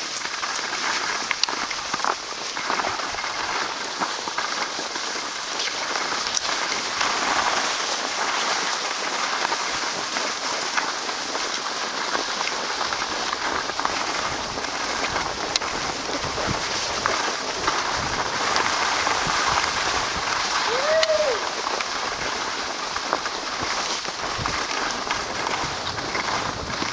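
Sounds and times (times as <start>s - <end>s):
skis sliding over packed snow: 0.0s - 26.9s.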